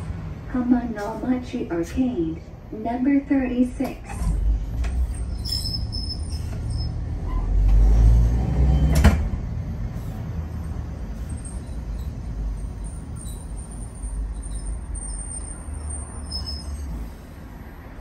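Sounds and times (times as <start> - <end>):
tram motor and wheels rumbling: 0.0 - 18.0.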